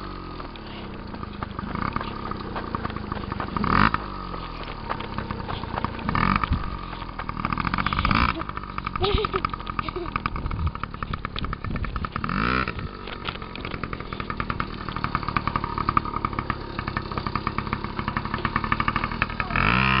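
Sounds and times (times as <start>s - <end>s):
small two-stroke engine revving: 0.0s - 20.0s.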